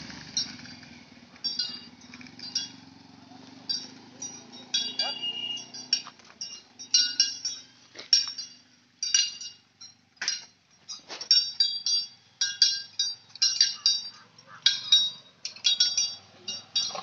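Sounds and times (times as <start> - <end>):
small metal bells jingling: 0.0 - 17.0.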